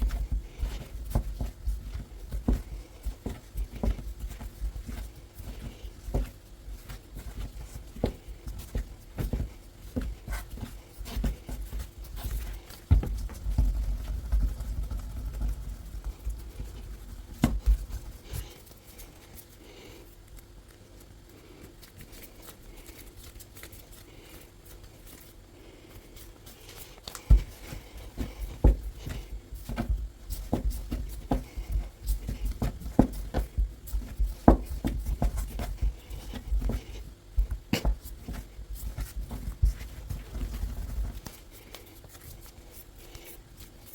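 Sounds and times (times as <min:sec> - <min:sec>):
hands kneading dough: 0:00.0 - 0:43.9.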